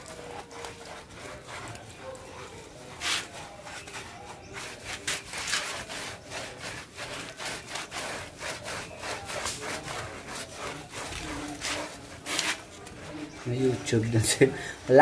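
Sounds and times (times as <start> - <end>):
scrubbing wet dog coat: 0.0 - 15.0.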